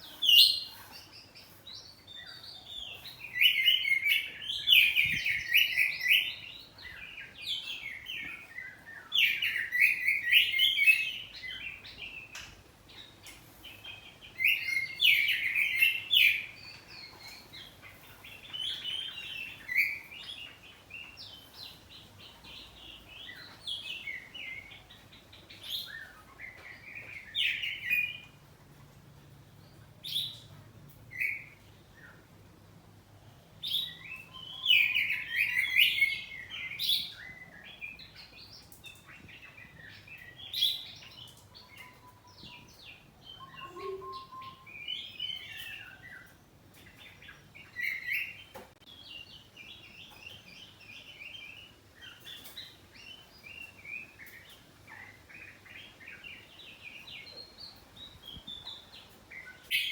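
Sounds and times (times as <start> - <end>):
magpie-robin singing: 0.0 - 13.1, 13.8 - 28.4, 33.6 - 59.9.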